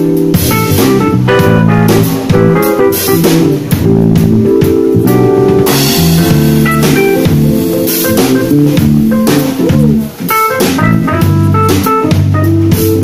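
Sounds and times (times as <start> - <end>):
electric bass line: 0.0 - 13.0
keyboard chords: 0.0 - 13.0.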